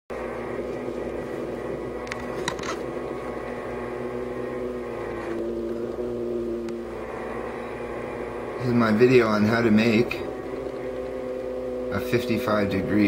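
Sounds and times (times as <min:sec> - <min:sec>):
quadcopter motors humming: 0:00.1 - 0:13.0.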